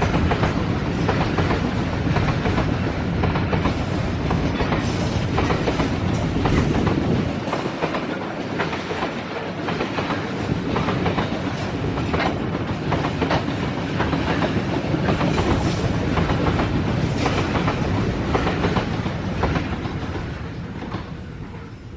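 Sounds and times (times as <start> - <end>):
train rumble: 0.0 - 21.9
train wheels clicking over rail joints: 0.0 - 21.9.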